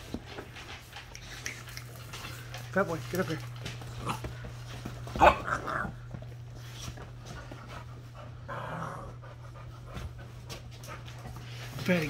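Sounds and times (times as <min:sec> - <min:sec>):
dog panting: 0:00.1 - 0:04.9, 0:06.5 - 0:12.0.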